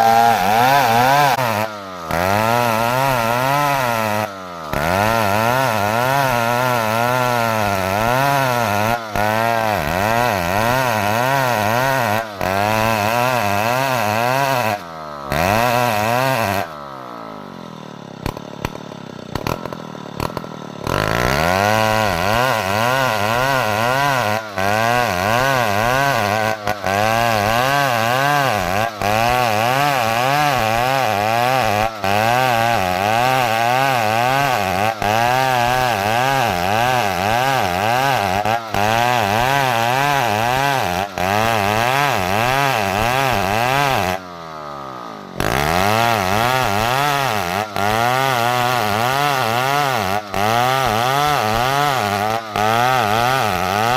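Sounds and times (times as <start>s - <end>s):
chainsaw engine cutting: 0.0s - 53.9s.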